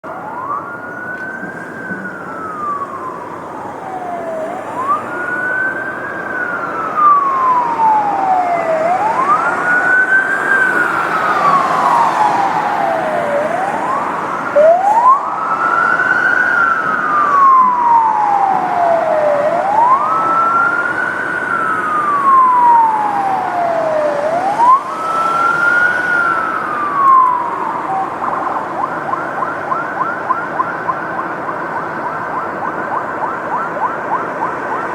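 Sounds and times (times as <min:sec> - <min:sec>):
police siren wailing: 0:00.0 - 0:34.9
road noise: 0:00.0 - 0:34.9.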